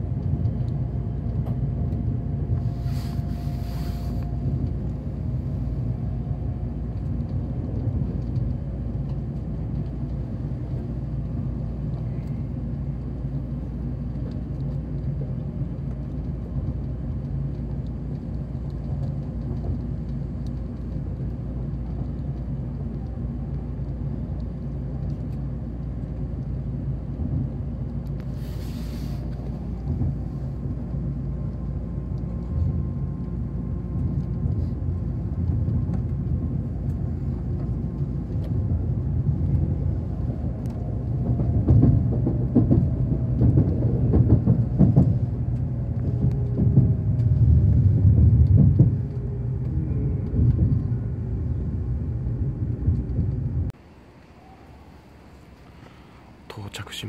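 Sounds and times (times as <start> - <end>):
falling whine of slowing train: 0.0 - 57.0
train running rumble: 0.0 - 57.0.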